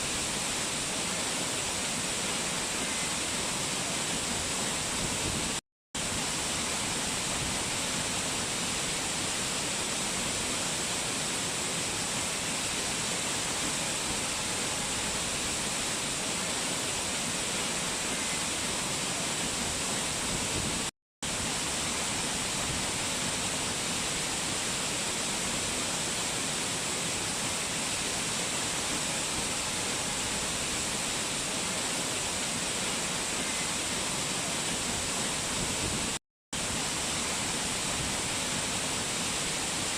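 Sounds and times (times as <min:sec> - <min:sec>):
rushing mountain water: 0:00.0 - 0:39.9.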